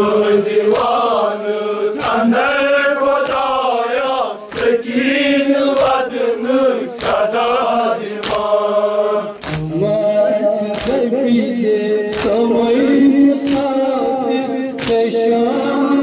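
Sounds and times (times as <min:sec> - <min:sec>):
men chanting a lament: 0:00.0 - 0:16.0.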